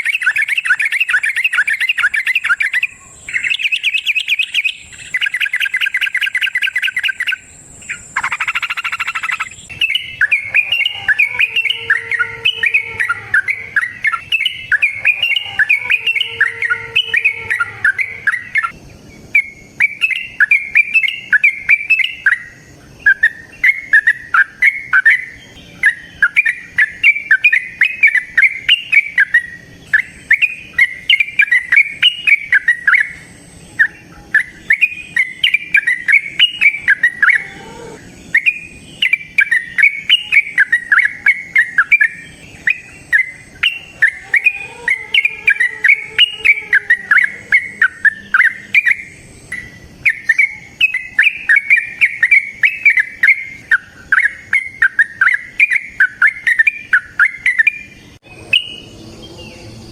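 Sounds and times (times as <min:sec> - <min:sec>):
bulbul singing: 0:00.0 - 0:59.9
steady high-pitched tone: 0:00.0 - 0:59.9.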